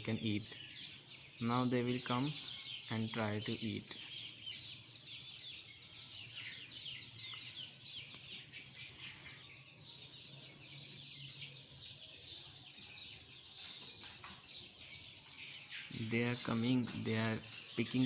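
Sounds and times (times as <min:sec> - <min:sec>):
chickens peeping and clucking: 0:00.0 - 0:18.0.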